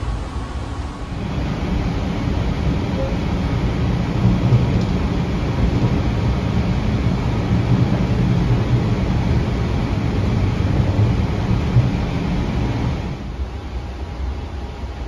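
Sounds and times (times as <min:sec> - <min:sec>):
streetcar rumbling on track: 0:00.0 - 0:15.0.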